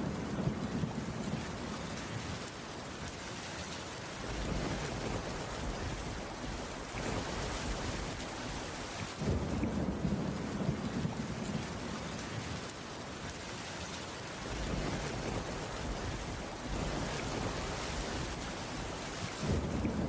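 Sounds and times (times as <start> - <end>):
distant thunder rumble: 0.0 - 2.3, 4.2 - 12.7, 14.4 - 20.0
rain on a wooden roof: 0.0 - 20.0.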